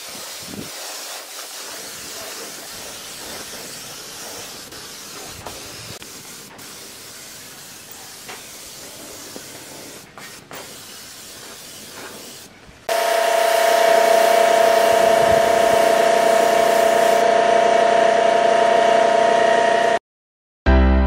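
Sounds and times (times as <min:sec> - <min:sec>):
spray gun hissing: 0:00.0 - 0:17.2.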